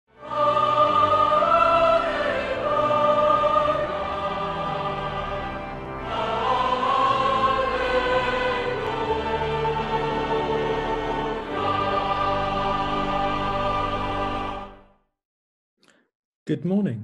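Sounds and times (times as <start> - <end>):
choir singing held notes: 0.1 - 14.9.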